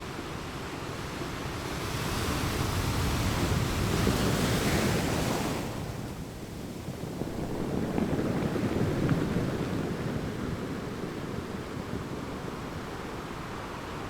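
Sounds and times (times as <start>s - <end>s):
sea waves washing in: 0.1s - 14.0s
wind buffeting microphone: 1.8s - 14.0s.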